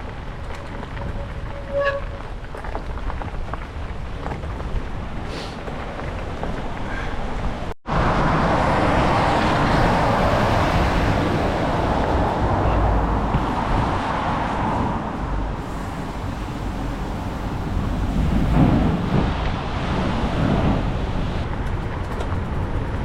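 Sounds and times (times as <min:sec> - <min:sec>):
rain and wind on microphone: 0:00.0 - 0:23.0
wet tyres on path: 0:00.0 - 0:23.0.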